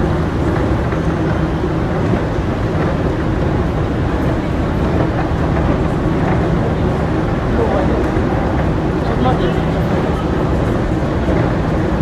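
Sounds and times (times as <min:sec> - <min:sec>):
train hum and rumble: 0:00.0 - 0:12.0.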